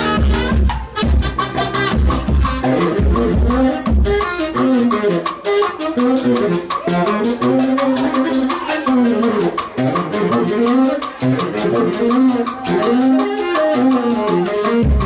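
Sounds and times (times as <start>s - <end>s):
baritone saxophone riffs: 0.0s - 15.0s
marching bass drum beat: 0.0s - 15.0s
trumpet riffs: 0.0s - 15.0s.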